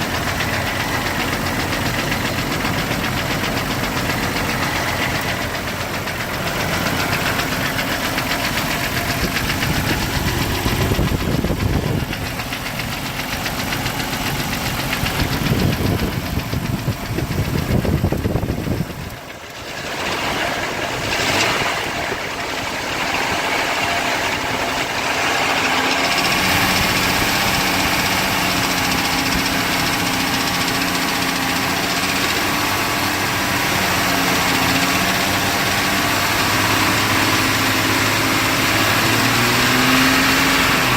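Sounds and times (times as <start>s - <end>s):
engine running with rattle: 0.0s - 40.9s.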